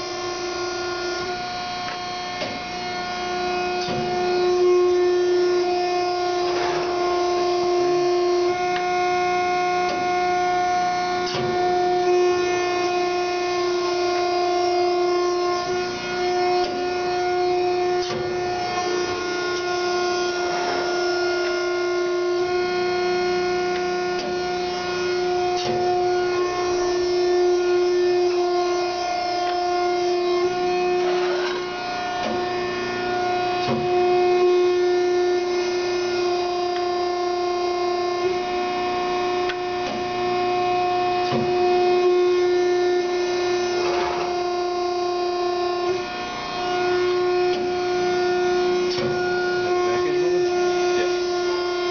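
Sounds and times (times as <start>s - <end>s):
hydraulic pump whining: 0.0s - 51.9s.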